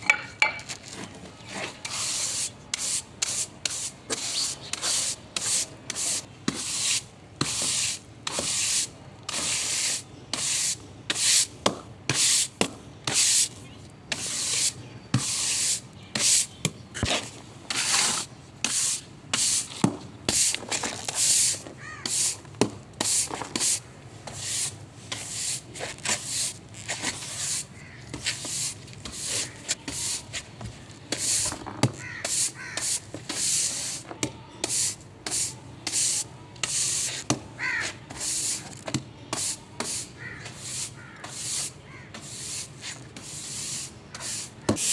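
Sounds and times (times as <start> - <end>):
gritty scrubbing strokes: 1.4 - 11.5, 14.1 - 22.4, 23.0 - 31.6, 32.2 - 38.8, 39.4 - 44.9.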